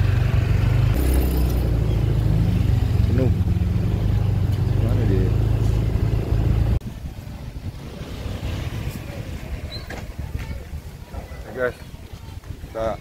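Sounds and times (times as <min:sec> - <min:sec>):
scooter engine humming: 0:00.0 - 0:10.7
outdoor background noise: 0:00.0 - 0:13.0.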